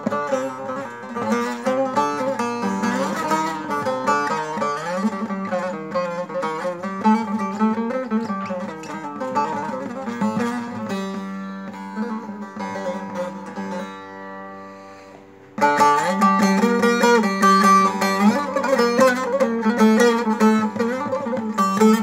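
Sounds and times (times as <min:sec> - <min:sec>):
long-neck lute plucked melody: 0:00.0 - 0:22.0.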